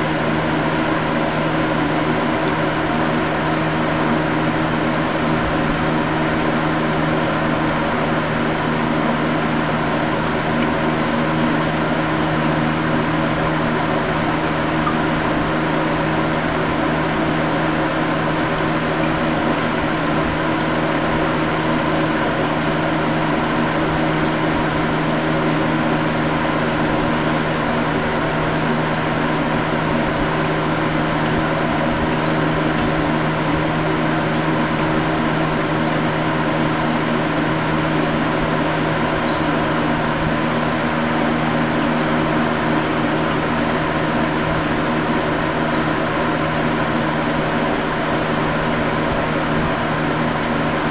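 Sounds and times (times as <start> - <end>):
aquarium pump humming: 0.0 - 50.9.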